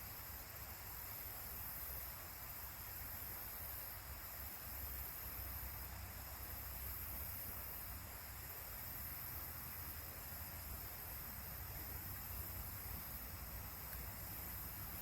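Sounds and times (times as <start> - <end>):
creek rushing: 0.0 - 15.0.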